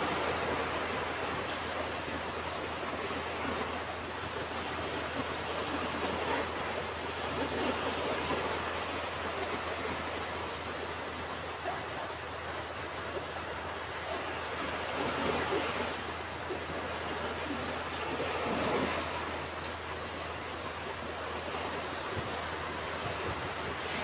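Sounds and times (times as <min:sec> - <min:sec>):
ocean waves washing on beach: 0:00.0 - 0:24.0.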